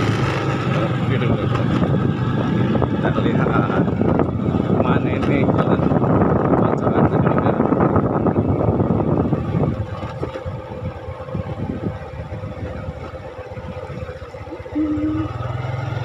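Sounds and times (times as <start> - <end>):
wind rushing on microphone: 0.0 - 14.2
motorcycle engine: 0.0 - 16.0.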